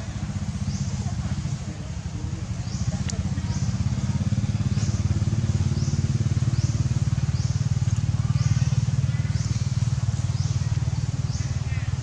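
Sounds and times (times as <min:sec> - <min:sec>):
motor rumbling: 0:00.0 - 0:12.0.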